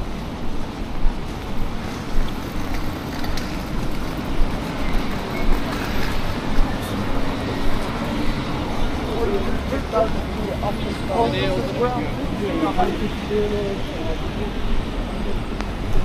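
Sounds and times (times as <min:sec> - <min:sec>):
road traffic rushing past: 0:00.0 - 0:16.0.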